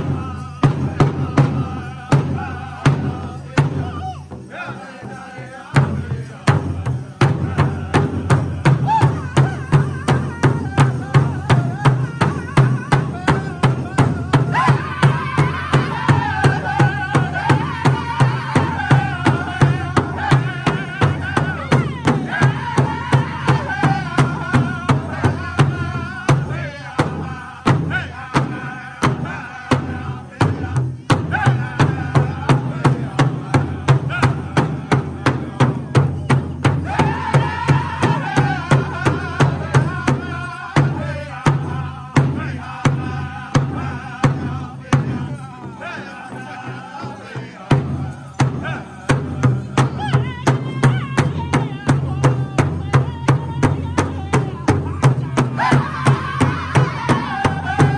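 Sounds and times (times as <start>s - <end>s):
large drum steady beat: 0.0s - 57.9s
men singing in high voices: 0.0s - 57.9s.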